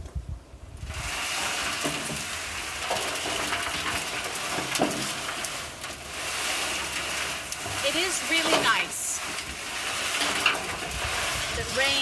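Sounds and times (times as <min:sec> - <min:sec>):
compost churning with crackling hiss: 0:00.7 - 0:12.0.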